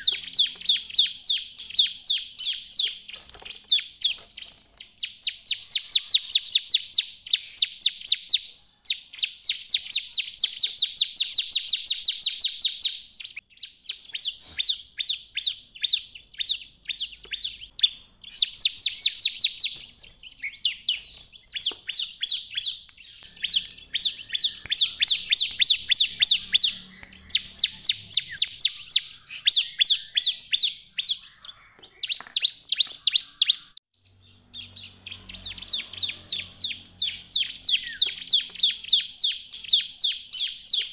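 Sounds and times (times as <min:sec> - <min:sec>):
bird trilling song: 0:00.0 - 0:40.9.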